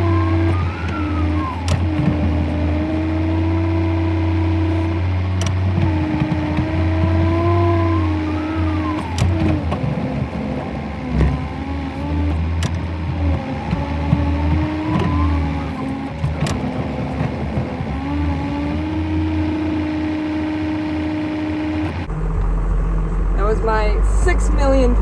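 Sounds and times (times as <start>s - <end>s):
tractor engine revving: 0.0s - 25.0s.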